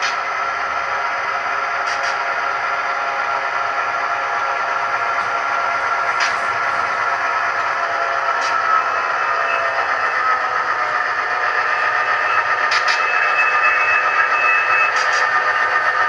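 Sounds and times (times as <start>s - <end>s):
model train mechanical drone: 0.0s - 16.0s.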